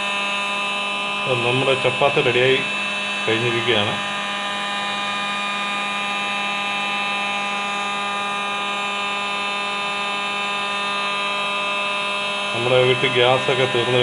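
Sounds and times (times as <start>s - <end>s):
hot air gun fan whine: 0.0s - 14.0s.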